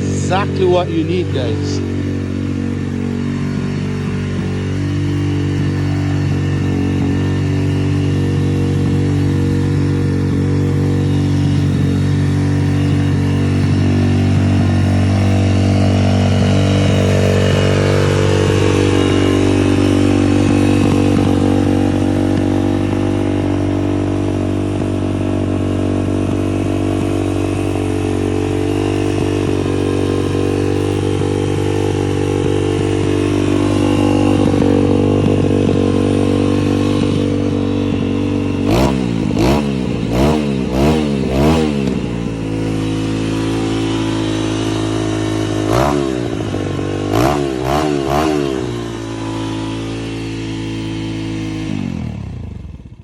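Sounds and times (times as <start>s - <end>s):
dirt bike engine idling high: 0.0s - 53.0s.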